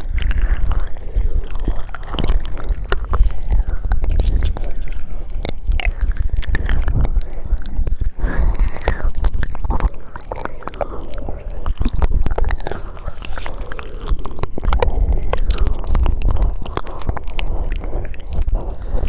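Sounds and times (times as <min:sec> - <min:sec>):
breathy whispery hiss: 0:00.0 - 0:19.0
wet mouth clicks and smacks: 0:00.0 - 0:19.0.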